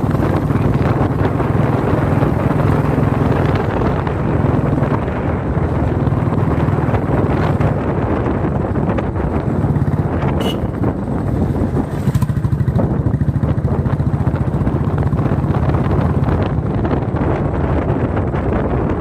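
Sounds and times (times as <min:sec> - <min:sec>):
vehicle engine running: 0:00.0 - 0:19.0
wind buffeting microphone: 0:00.0 - 0:19.0.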